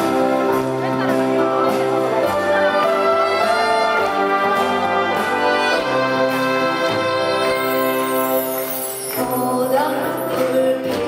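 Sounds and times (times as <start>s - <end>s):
live band with brass section: 0.0s - 11.0s.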